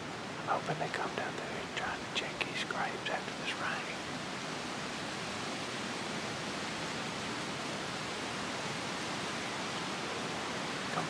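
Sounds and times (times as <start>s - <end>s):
wind rushing through trees: 0.0s - 11.0s.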